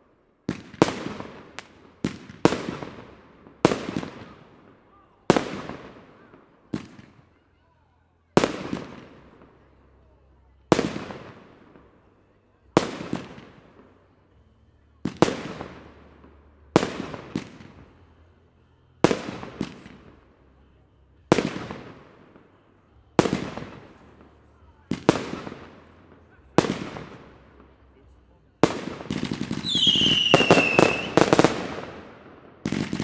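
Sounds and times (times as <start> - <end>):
fireworks bursting with echo: 0.0 - 33.0.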